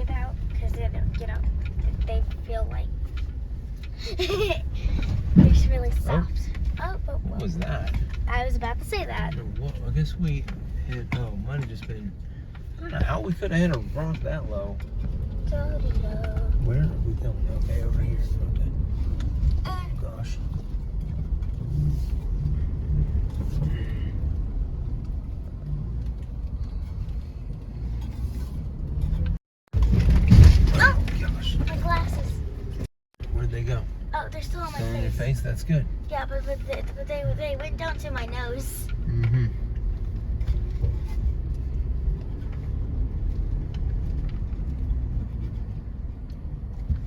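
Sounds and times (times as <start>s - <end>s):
vehicle rumble inside cabin: 0.0s - 47.0s.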